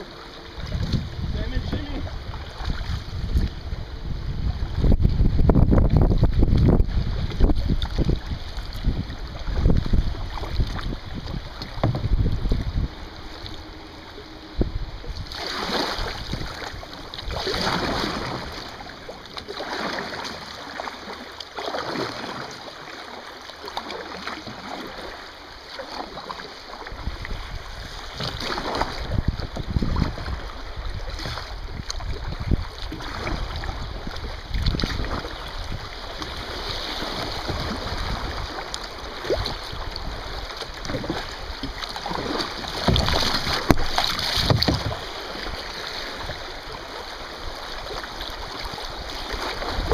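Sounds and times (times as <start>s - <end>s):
wind rumble on microphone: 0.0s - 19.1s, 26.8s - 49.9s
kayak paddle strokes splashing: 0.0s - 49.9s
running river water: 0.0s - 49.9s.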